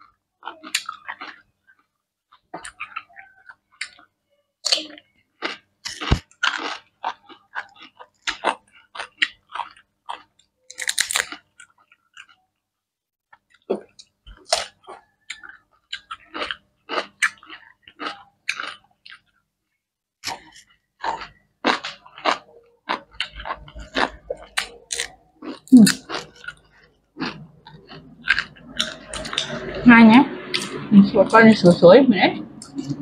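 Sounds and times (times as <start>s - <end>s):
chewing and crunching food: 0.0s - 12.6s, 13.3s - 19.4s, 20.2s - 29.8s.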